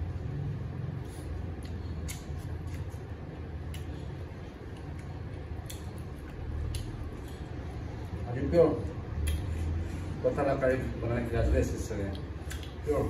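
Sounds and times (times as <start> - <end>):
low steady hum: 0.0 - 13.0
people chewing food: 0.8 - 10.2, 11.8 - 13.0.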